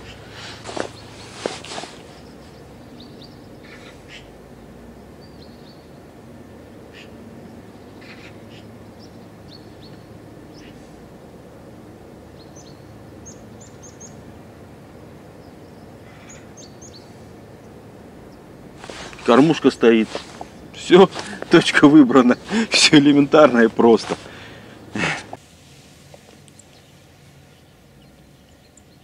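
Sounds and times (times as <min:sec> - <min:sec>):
small birds chirping: 0:00.0 - 0:11.4, 0:12.2 - 0:25.4, 0:26.1 - 0:29.0
low outdoor background hum: 0:00.0 - 0:29.0.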